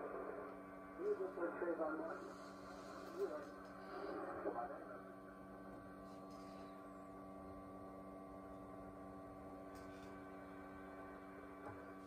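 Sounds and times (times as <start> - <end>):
faint steady radio hum: 0.0 - 12.0.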